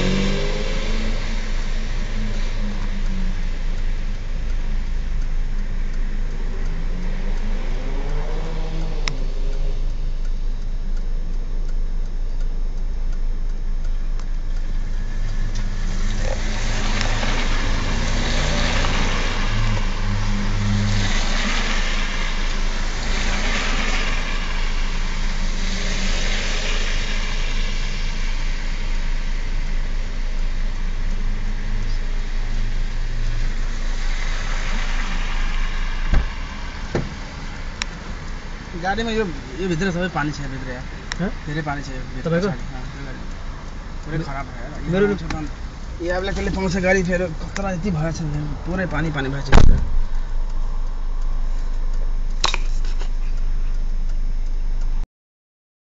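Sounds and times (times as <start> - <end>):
tyres hissing through water: 0.0 - 10.2, 14.5 - 50.8
car engines running: 0.0 - 55.0.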